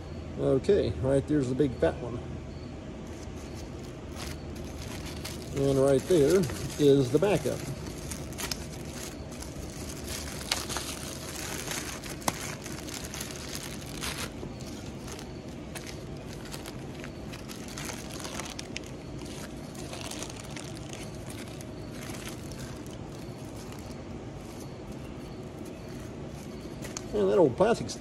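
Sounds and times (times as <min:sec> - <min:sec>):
plastic bag crinkling: 0:03.1 - 0:27.3.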